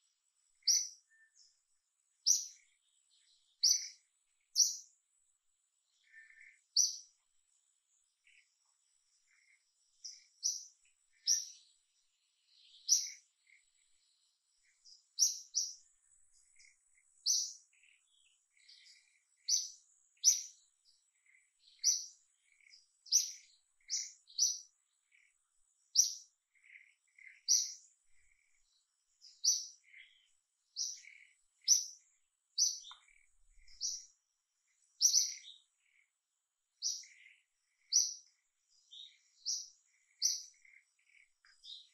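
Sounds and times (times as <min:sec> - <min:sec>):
bird chirping: 0:00.0 - 0:41.9.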